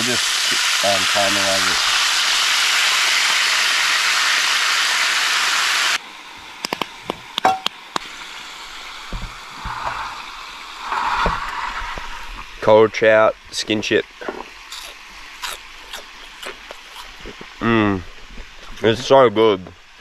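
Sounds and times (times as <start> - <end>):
fish sizzling in a frying pan: 0.0 - 20.0.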